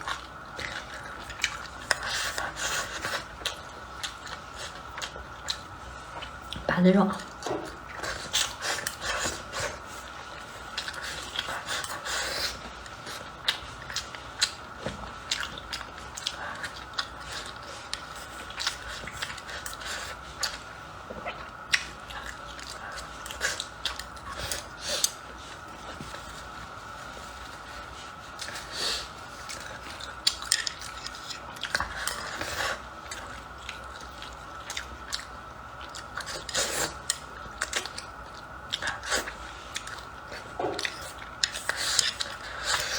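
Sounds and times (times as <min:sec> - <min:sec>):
food crunching: 0:00.0 - 0:42.9
wet chewing and biting: 0:00.0 - 0:42.9.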